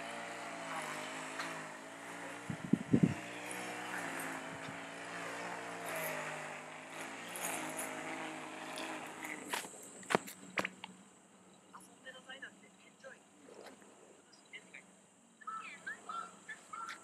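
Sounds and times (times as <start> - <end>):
distant engine droning: 0.0 - 17.0.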